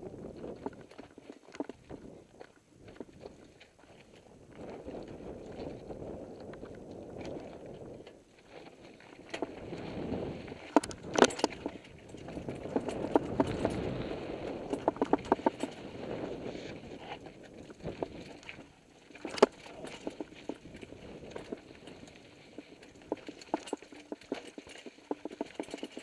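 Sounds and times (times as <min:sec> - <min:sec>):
low rumble of rolling: 0:00.0 - 0:23.7
tyres crunching over rock: 0:00.0 - 0:26.0.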